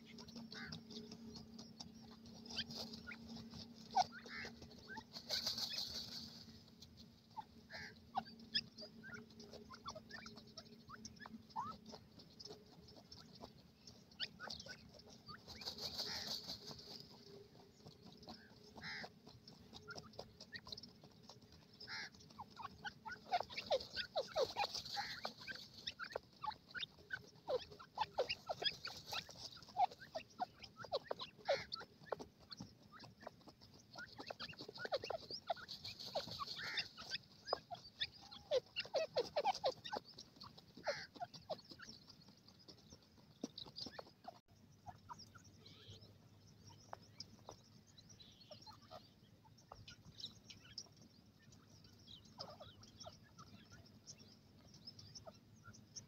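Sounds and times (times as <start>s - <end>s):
birds clucking and chirping: 0.0s - 56.0s.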